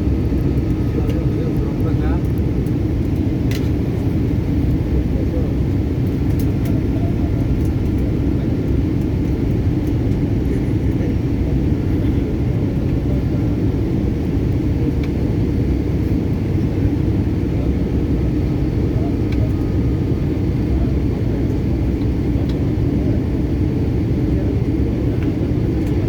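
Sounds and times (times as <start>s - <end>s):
airliner cabin roar: 0.0s - 26.0s.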